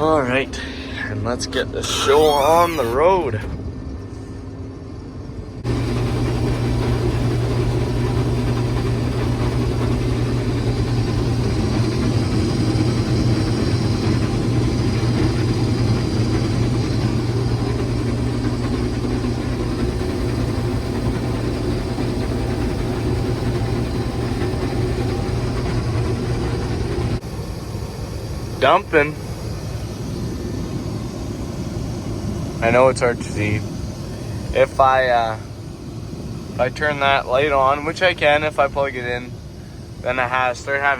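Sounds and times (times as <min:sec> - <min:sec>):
combine harvester engine hum: 0:00.0 - 0:40.9.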